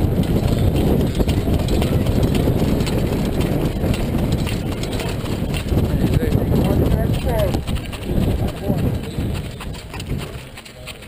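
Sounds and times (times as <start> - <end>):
horse hoofbeats on dirt: 0.0 - 11.0
wind buffeting microphone: 0.0 - 11.0.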